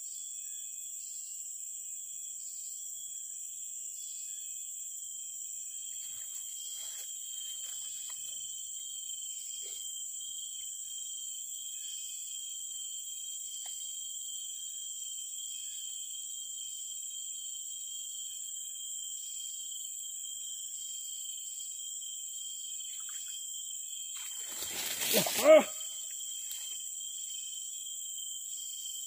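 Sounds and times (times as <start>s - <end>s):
insect trill: 0.0s - 29.0s
insects droning: 0.0s - 29.0s.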